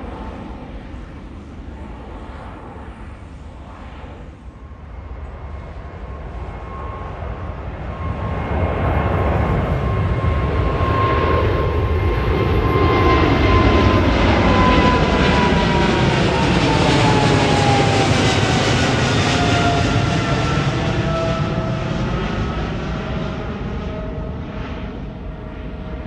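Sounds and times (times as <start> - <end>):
jet airliner climbing overhead: 0.0 - 26.0
jet engine whine: 0.0 - 26.0.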